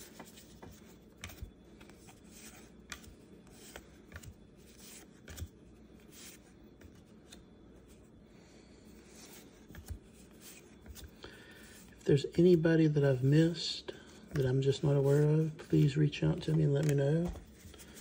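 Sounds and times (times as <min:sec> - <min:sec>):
cards rustling and clicking: 0:00.0 - 0:08.0, 0:08.9 - 0:18.0.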